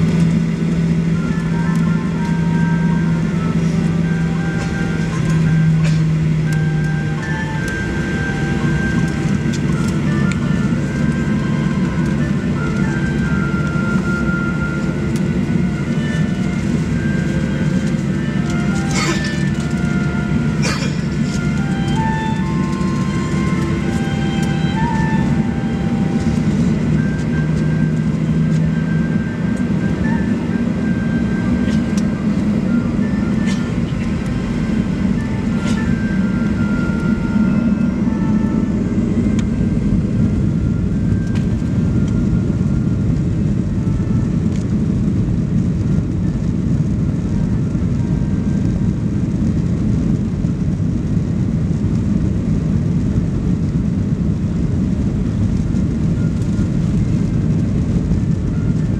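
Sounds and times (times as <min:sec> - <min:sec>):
jet engines low rumble: 0:00.0 - 0:58.9.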